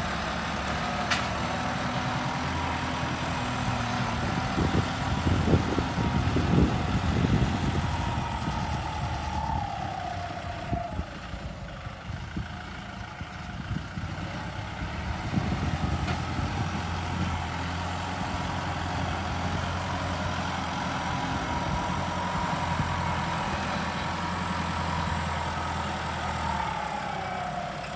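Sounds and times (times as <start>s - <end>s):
tractor engine under load: 0.0s - 27.9s.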